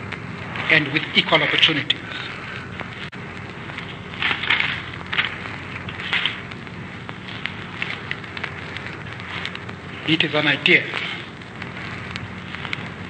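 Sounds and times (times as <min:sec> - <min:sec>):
crackling hiss of old recording: 0:00.0 - 0:13.0
low steady hum: 0:00.0 - 0:13.0.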